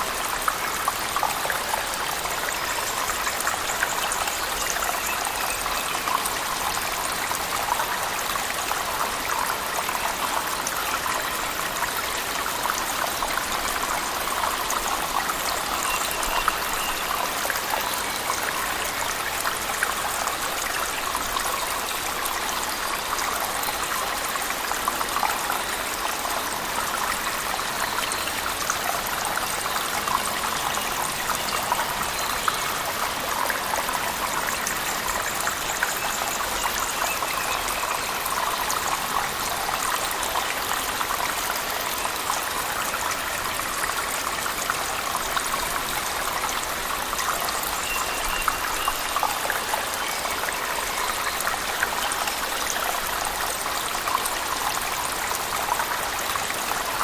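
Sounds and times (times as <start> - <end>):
waterfall and heavy rain: 0.0 - 57.0.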